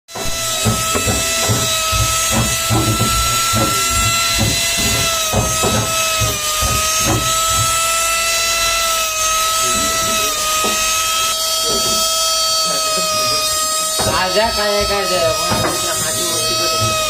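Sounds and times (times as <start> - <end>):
small machine motor whine: 0.1 - 17.0.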